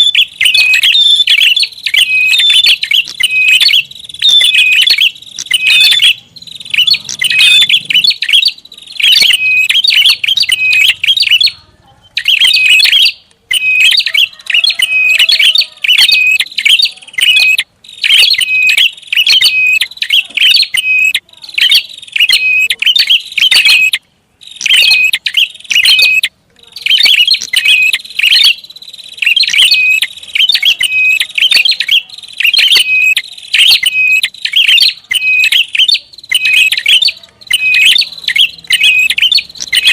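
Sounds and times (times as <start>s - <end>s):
bird rapid chirping: 0.0s - 39.9s.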